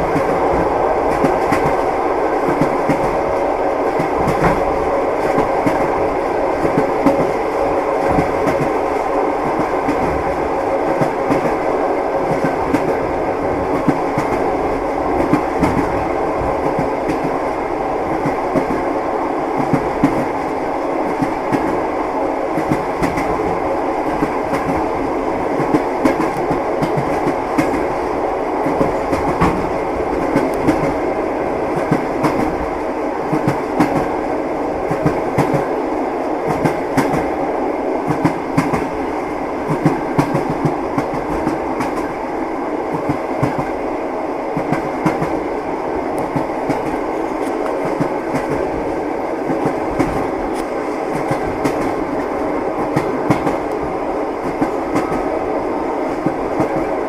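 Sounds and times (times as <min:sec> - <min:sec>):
train wheels clattering over rails: 0:00.0 - 0:11.6, 0:12.2 - 0:18.9, 0:22.5 - 0:31.0, 0:31.7 - 0:34.2, 0:34.8 - 0:35.8, 0:36.4 - 0:37.4, 0:38.0 - 0:42.2, 0:42.9 - 0:43.8, 0:44.5 - 0:45.6, 0:46.2 - 0:55.4.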